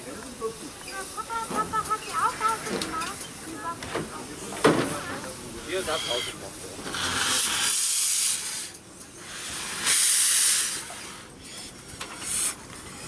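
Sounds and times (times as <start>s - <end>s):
steam hissing: 0.0s - 13.0s
steam locomotive moving: 0.0s - 13.0s.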